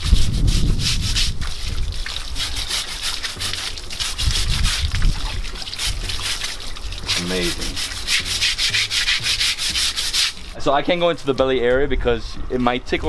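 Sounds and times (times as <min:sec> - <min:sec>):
scrubber rubbing hide: 0:00.0 - 0:10.6
hose water splashing: 0:00.0 - 0:11.4.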